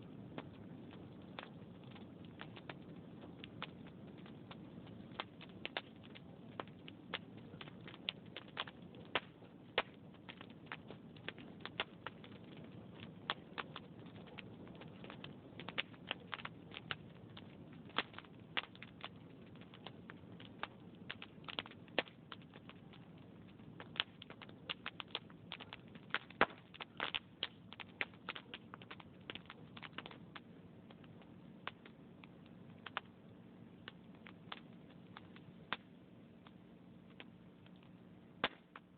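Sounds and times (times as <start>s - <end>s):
fire crackling and popping: 0.0s - 38.9s
low rumble of fire: 0.0s - 38.9s.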